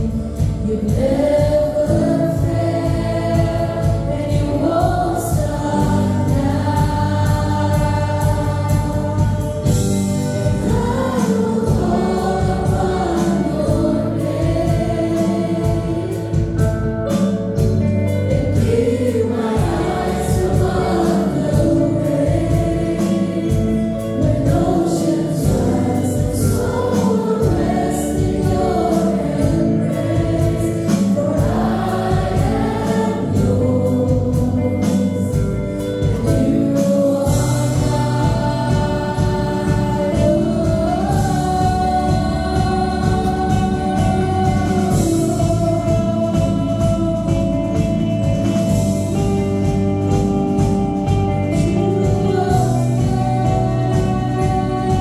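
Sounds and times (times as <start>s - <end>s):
women singing gospel song: 0.0s - 17.2s, 17.8s - 49.8s, 50.5s - 55.0s
instrumental accompaniment: 0.0s - 55.0s.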